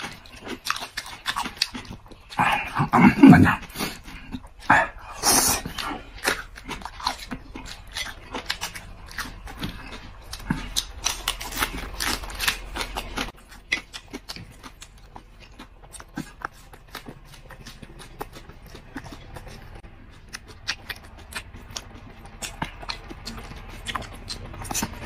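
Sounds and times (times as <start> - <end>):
man chewing crunchy pepper: 0.0 - 25.0.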